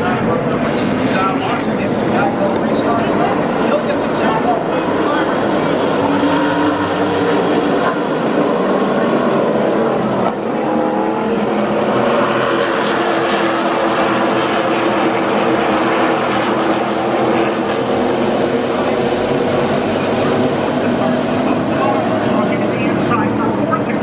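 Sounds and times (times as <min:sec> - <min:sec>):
race truck engines at full throttle: 0:00.0 - 0:24.0.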